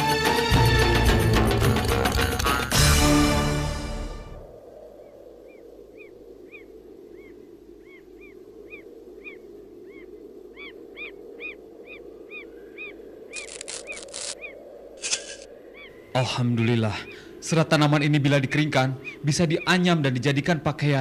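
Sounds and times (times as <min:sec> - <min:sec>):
outdoor background hiss: 0:02.9 - 0:21.0.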